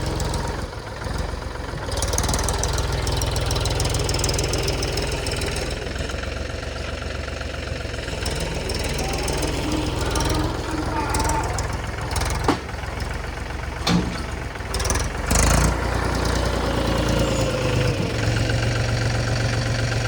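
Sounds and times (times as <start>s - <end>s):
tractor diesel engine knocking: 0.0s - 20.0s.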